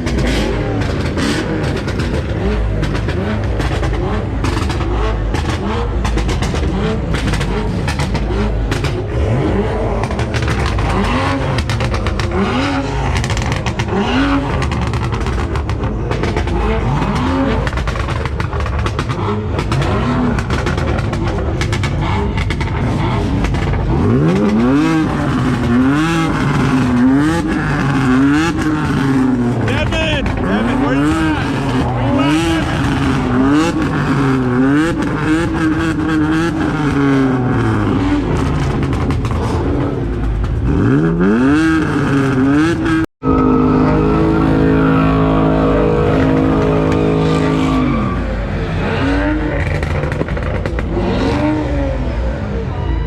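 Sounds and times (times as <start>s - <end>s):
engine throttle blips: 0.0s - 53.0s.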